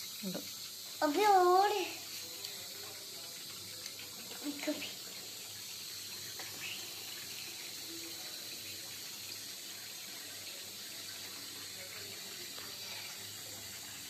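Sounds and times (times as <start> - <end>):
tap water splashing on steel pots: 0.0 - 14.0.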